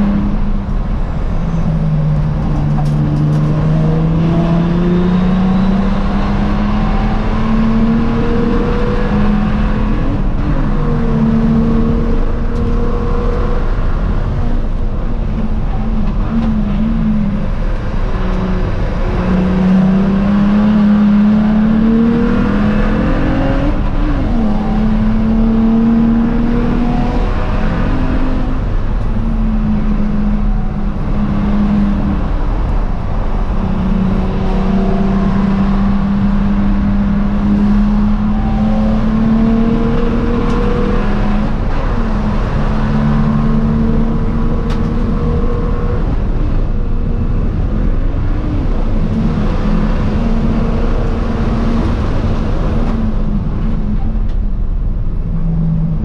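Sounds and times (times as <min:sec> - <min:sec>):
car engine racing under load: 0:00.0 - 0:56.0.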